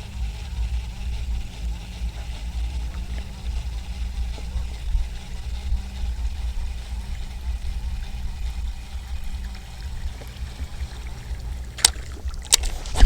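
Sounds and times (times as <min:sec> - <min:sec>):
wind rumbling on microphone: 0:00.0 - 0:13.0
sharp clicks: 0:00.1 - 0:13.0.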